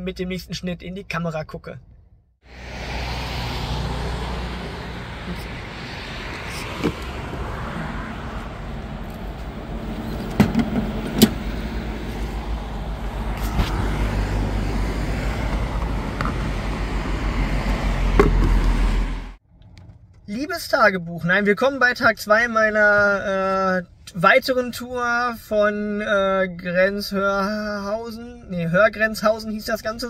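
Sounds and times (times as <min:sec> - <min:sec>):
road and tyre rumble: 0:01.9 - 0:26.1.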